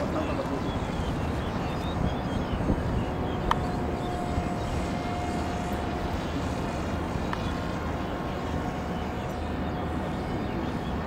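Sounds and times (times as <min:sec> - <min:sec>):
model aircraft motor whine: 0:00.0 - 0:11.0.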